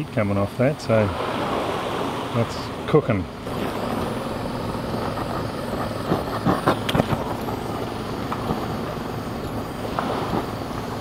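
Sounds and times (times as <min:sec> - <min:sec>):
butane torch hissing: 0:00.0 - 0:11.0
outdoor background noise: 0:00.0 - 0:11.0.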